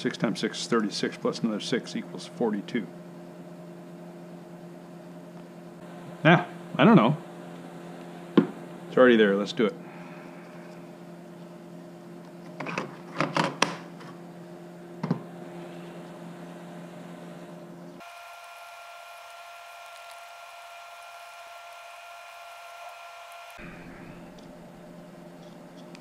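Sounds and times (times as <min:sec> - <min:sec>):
workshop hum: 0:00.0 - 0:26.0.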